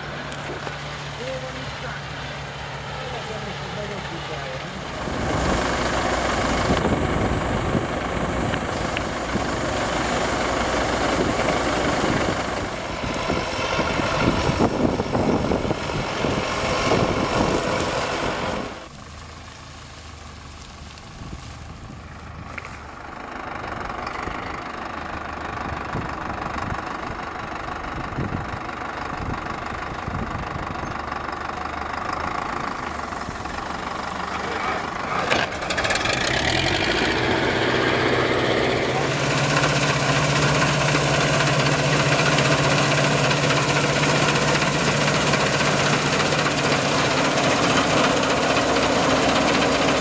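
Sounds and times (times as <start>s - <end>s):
farm machinery engine running: 0.0s - 50.0s.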